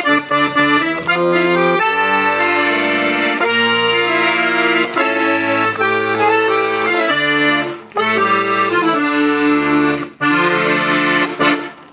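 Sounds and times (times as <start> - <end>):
accordion playing chords: 0.0 - 11.9.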